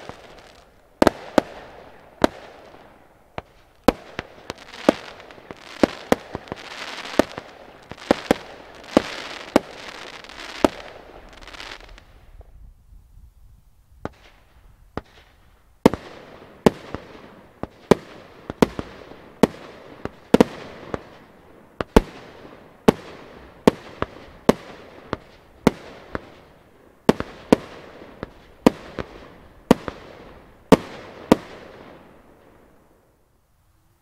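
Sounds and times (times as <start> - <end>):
fireworks bangs with hiss: 0.0 - 12.7, 14.0 - 33.0.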